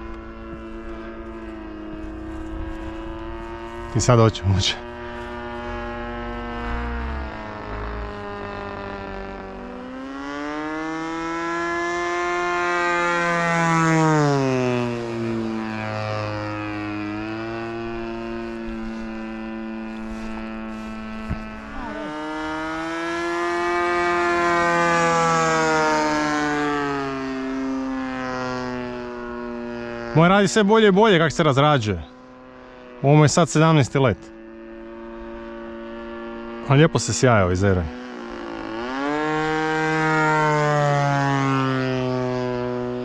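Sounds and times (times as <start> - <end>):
model airplane engine passing: 0.0 - 43.0.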